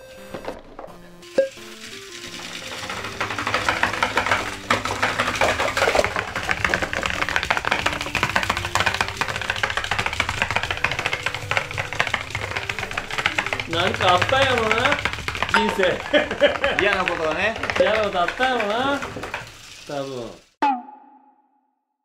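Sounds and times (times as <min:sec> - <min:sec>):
background music: 0:00.0 - 0:19.0
toy robot plastic clattering: 0:00.2 - 0:20.6.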